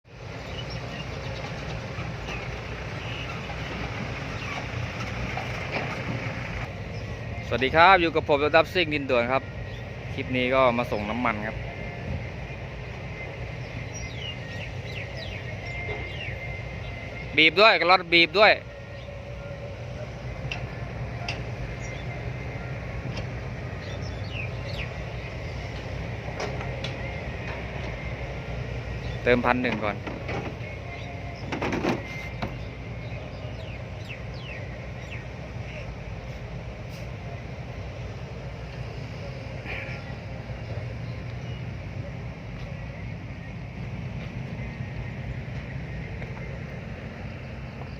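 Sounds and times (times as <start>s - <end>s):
diesel engine rumbling: 0.0s - 47.9s.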